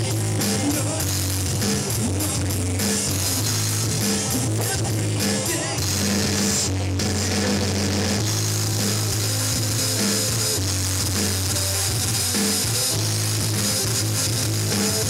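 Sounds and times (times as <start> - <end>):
drum kit: 0.0 - 15.0
electric guitars: 0.0 - 15.0.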